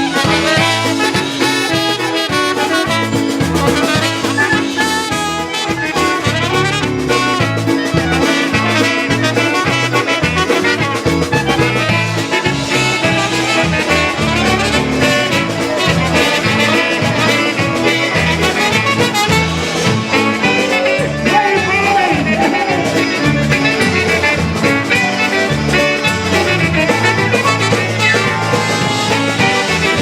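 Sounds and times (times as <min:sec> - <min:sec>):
brass playing the tune: 0:00.0 - 0:30.0
polka band playing: 0:00.0 - 0:30.0
pulsing bass beat: 0:00.0 - 0:30.0.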